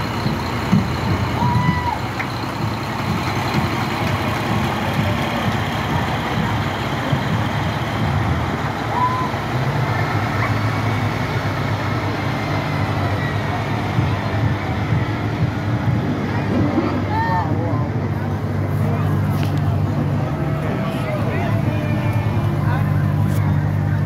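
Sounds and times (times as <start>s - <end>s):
heavy trucks rolling past: 0.0s - 24.0s.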